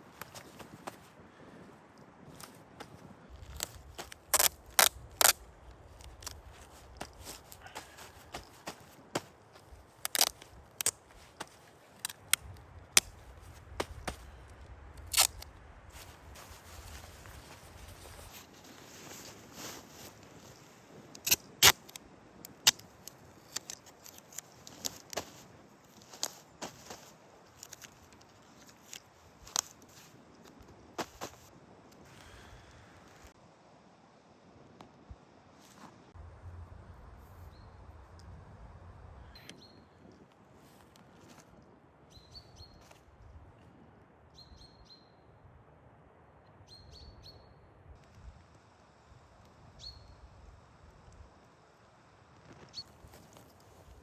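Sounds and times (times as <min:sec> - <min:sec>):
faint low background noise: 0:00.0 - 0:54.0.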